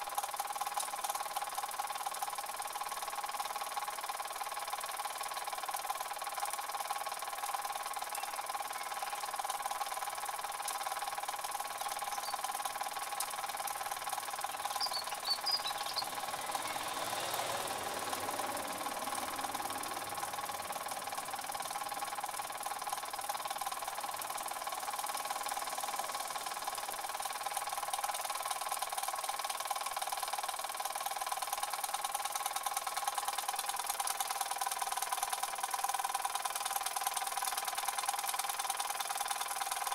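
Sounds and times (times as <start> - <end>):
toy steam engines running: 0.0 - 39.9.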